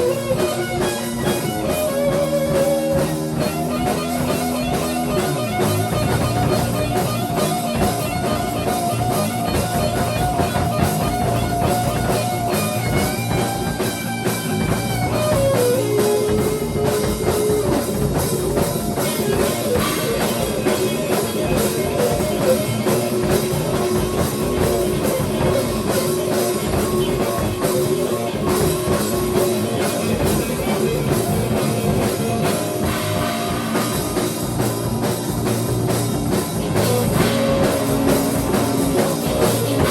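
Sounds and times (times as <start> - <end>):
drum kit playing: 0.0 - 39.9
guitar sustained notes: 0.0 - 39.9.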